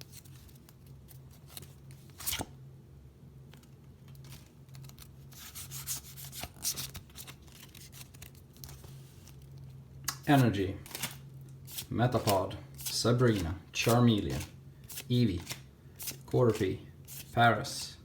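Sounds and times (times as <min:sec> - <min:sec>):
cards rustling and crinkling: 0:00.0 - 0:02.5, 0:03.4 - 0:18.0.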